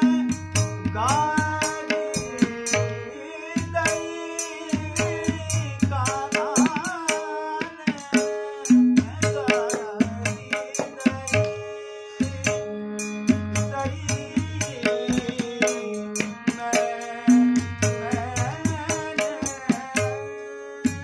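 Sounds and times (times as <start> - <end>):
harmonium: 0.0 - 21.0
man singing: 0.0 - 21.0
tabla beat: 0.0 - 21.0.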